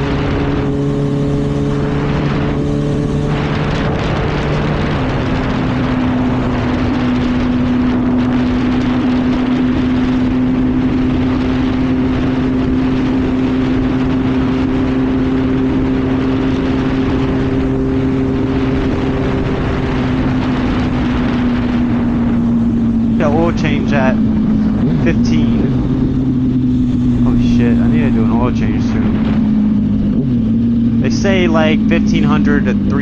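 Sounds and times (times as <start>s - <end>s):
motorcycle engine cruising: 0.0s - 33.0s
wind noise on microphone: 0.0s - 33.0s.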